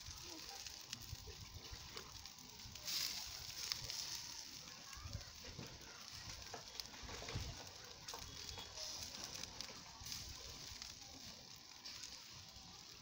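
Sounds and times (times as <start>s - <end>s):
water hissing on hot grill: 0.0s - 13.0s.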